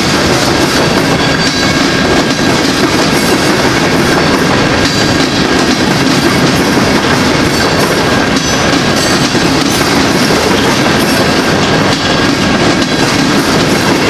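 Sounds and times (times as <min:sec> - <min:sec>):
freight train rumbling past: 0:00.0 - 0:14.0
wheels clacking on rails: 0:00.0 - 0:14.0.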